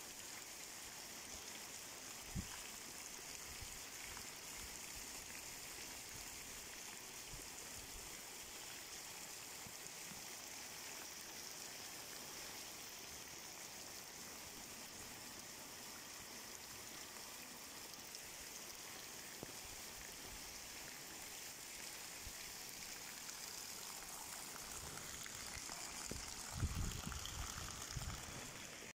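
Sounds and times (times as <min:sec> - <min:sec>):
rain and runoff water streaming: 0:00.0 - 0:29.0.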